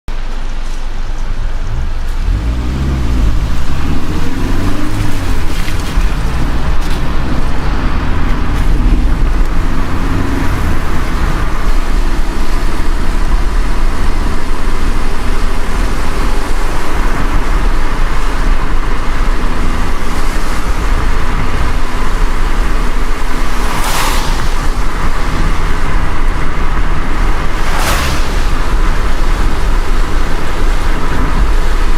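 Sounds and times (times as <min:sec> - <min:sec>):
car engine and road rumble: 0:00.1 - 0:31.9
tyres hissing on wet road: 0:00.1 - 0:31.9
car swishing past: 0:01.5 - 0:31.9.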